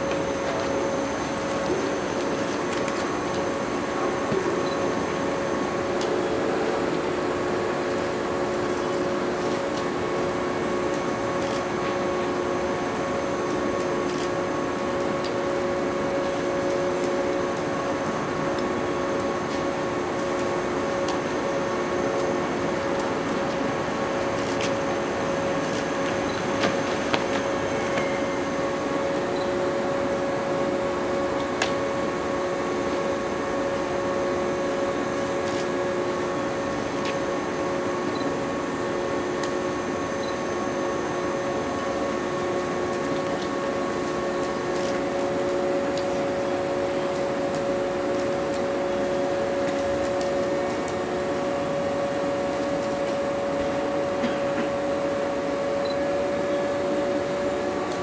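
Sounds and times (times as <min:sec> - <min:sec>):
electric train hum and whine: 0:00.0 - 0:58.0.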